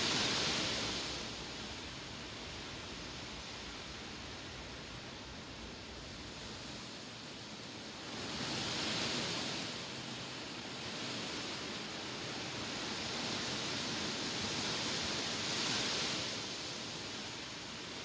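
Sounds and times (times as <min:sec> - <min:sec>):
wind rustling through grass: 0:00.0 - 0:18.0.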